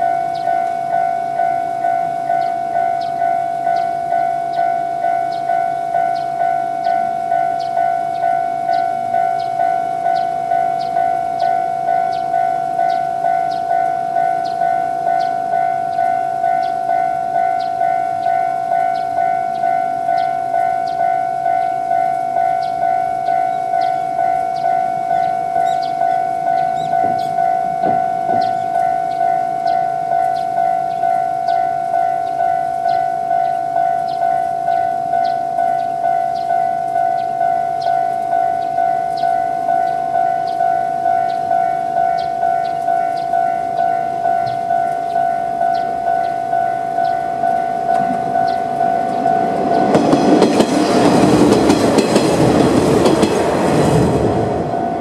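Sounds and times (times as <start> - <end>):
level crossing warning bell: 0.0 - 55.0.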